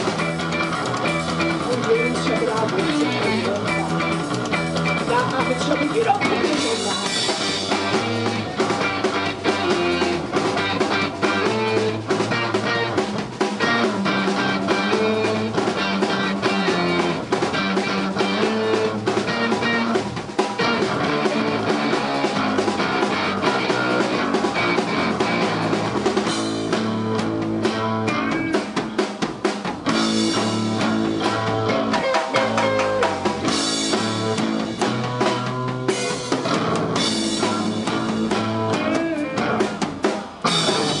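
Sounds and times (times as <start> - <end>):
bass guitar: 0.0 - 41.0
drum kit beat: 0.0 - 41.0
electric guitar: 0.0 - 41.0.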